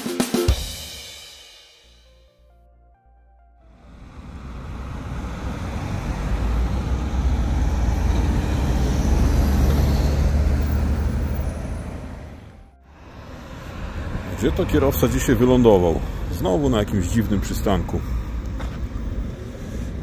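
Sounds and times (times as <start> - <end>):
vehicle engine rumble: 3.7 - 20.0.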